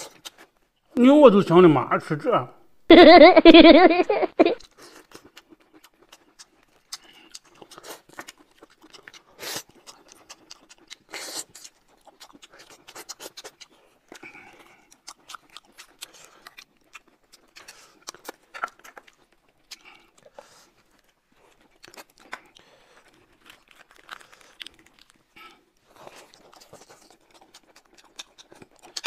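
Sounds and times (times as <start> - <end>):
chewing: 0.0 - 0.6, 4.6 - 29.0.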